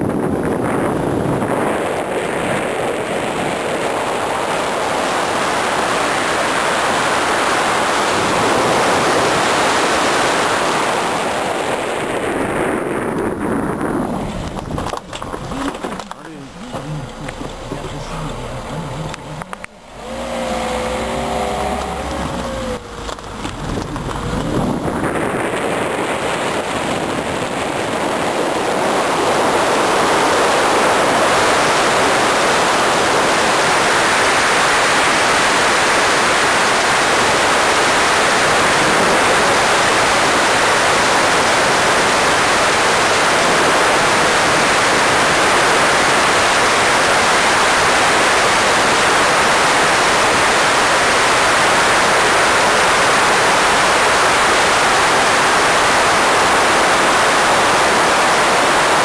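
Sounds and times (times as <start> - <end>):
wind and road noise in car: 0.0 - 59.0.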